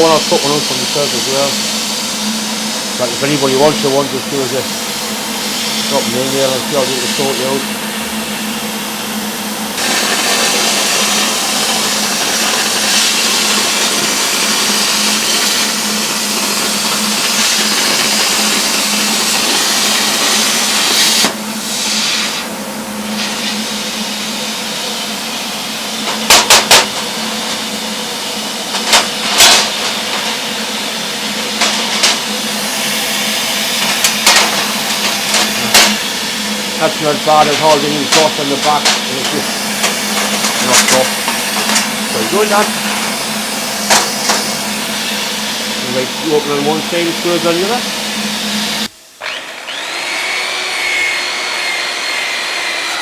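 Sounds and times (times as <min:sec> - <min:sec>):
steady low hum: 0:00.0 - 0:21.8, 0:22.4 - 0:49.2
plasma cutter arc hissing: 0:00.0 - 0:49.0.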